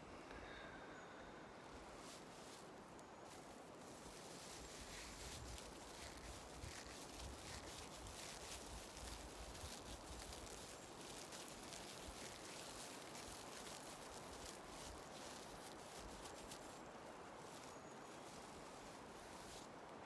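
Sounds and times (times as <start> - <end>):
steady outdoor hiss: 0.0 - 20.0
branch and dry leaves rustling: 1.6 - 20.0.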